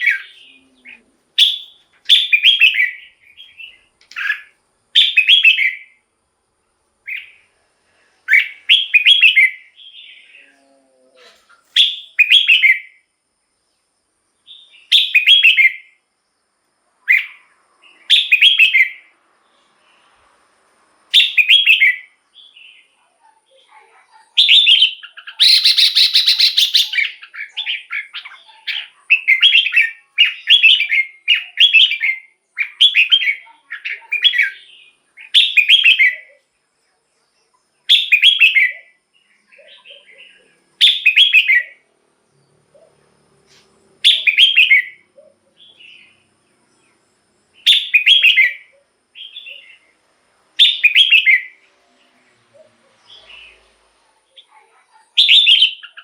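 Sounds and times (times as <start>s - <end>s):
bird singing bright phrases: 0.0s - 6.0s, 7.0s - 7.6s, 8.2s - 20.3s, 21.1s - 56.0s.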